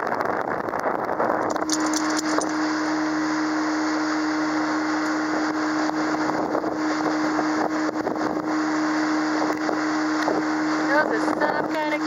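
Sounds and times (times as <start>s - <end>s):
outboard motor running: 0.0s - 12.0s
wind: 0.0s - 12.0s.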